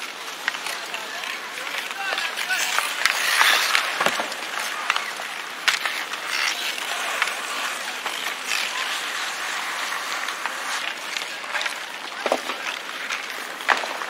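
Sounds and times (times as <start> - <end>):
skate wheels rolling over pavement: 0.0 - 14.0.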